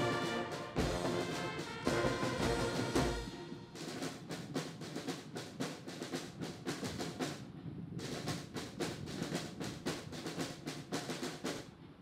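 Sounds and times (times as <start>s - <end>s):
military band playing march: 0.0s - 7.4s, 8.0s - 11.6s
snare drums beating: 0.0s - 11.7s.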